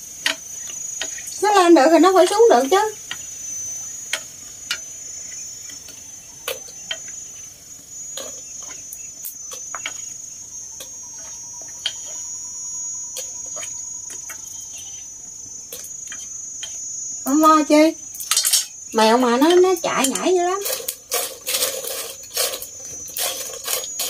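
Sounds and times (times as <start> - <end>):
crackers frying in hot oil: 0.0 - 24.0
steady high-pitched drone: 0.0 - 24.0.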